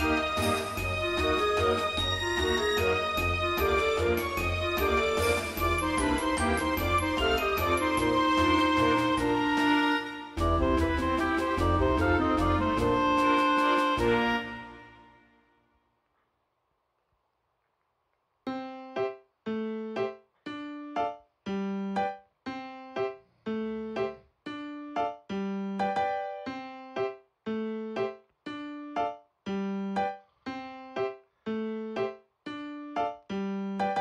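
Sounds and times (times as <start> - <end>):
piano-like keyboard melody: 0.0 - 15.2, 18.5 - 34.0.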